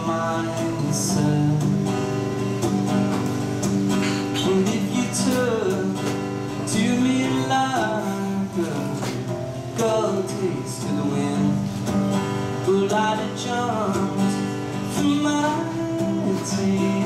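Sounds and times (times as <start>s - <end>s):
man singing: 0.0s - 2.3s, 4.1s - 17.0s
acoustic guitar strummed: 0.0s - 17.0s.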